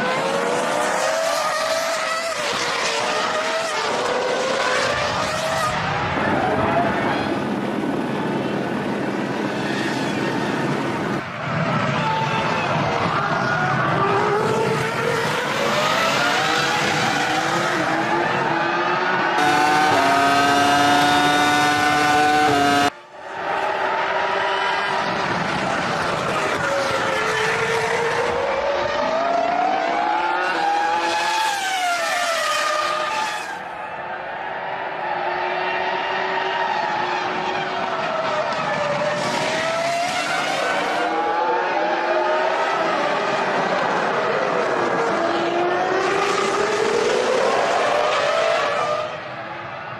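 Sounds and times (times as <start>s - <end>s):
racing car engines accelerating: 0.0s - 33.7s, 34.7s - 49.9s.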